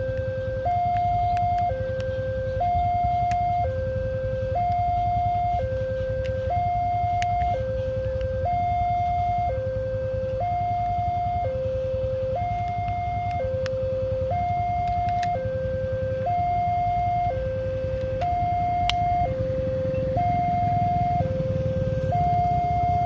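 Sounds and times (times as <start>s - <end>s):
low rumble: 0.0s - 23.0s
two-tone level crossing alarm: 0.0s - 23.0s.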